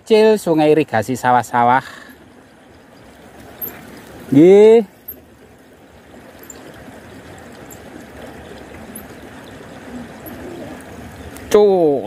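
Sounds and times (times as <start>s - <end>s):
water rushing along a channel: 0.0s - 12.0s.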